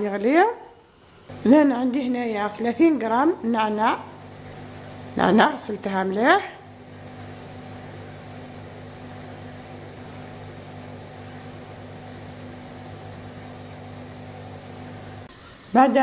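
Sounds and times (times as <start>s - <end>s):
low mechanical hum: 0.0s - 16.0s
even hiss: 0.6s - 16.0s.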